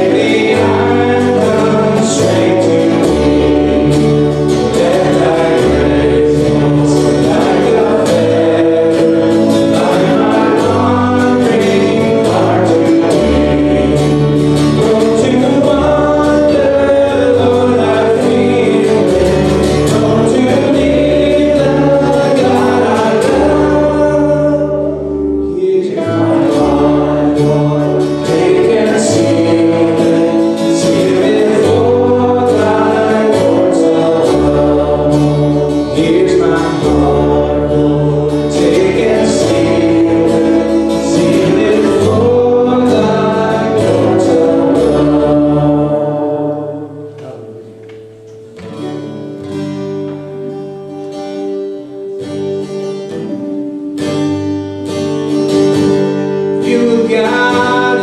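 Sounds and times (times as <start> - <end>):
band accompaniment: 0.0 - 49.1
voices singing worship song: 0.0 - 51.8, 55.1 - 58.0.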